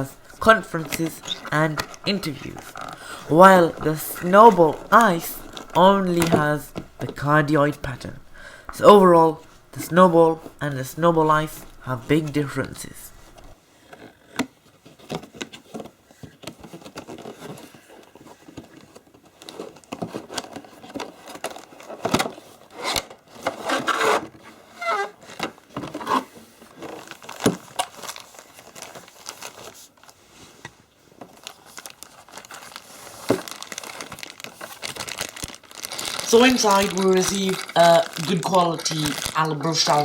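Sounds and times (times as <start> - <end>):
packaging crinkling and tearing: 0.0 - 13.6, 16.7 - 23.0, 25.2 - 30.2, 31.2 - 40.0.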